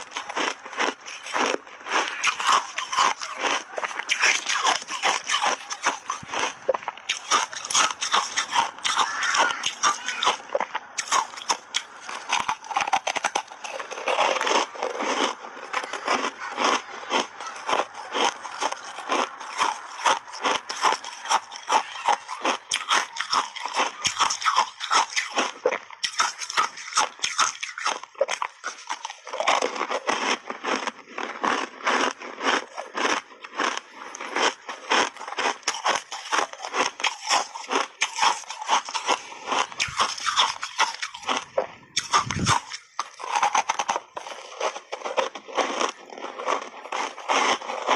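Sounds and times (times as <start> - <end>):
ice chunks being chewed: 0.0 - 47.9.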